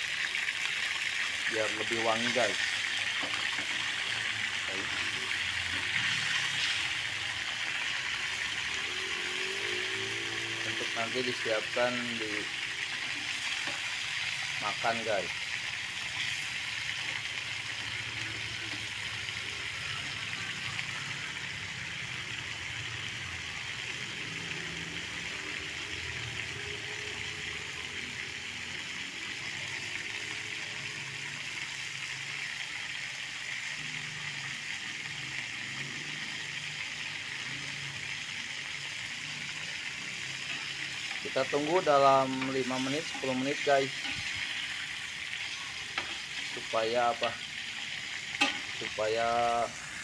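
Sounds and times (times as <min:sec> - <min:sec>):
fish frying in hot oil: 0:00.0 - 0:50.0.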